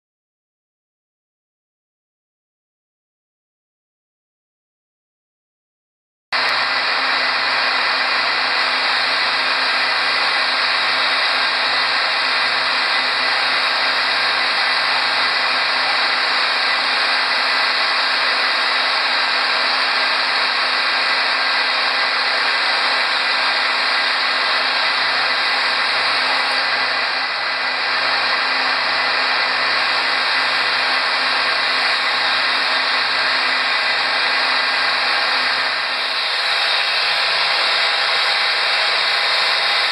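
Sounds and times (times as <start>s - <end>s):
power grinder grinding glass: 6.4s - 39.9s.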